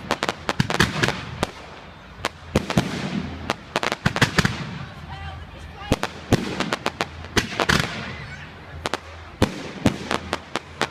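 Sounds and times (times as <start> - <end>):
fireworks bangs and cracks: 0.0 - 10.9
fireworks crackling: 0.0 - 10.9.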